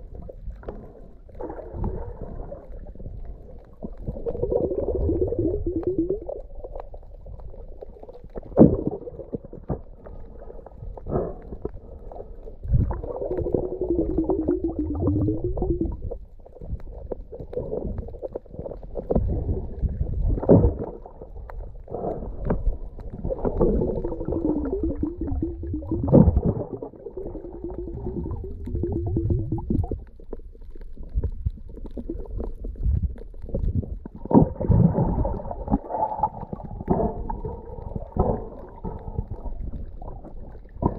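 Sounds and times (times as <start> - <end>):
underwater gurgling and sloshing: 0.0 - 40.9.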